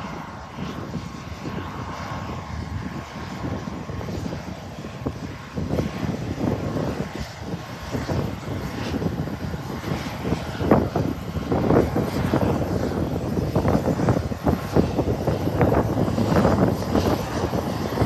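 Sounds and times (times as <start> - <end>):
aircraft engine rumble: 0.0 - 18.0
wind buffeting microphone: 0.0 - 18.0.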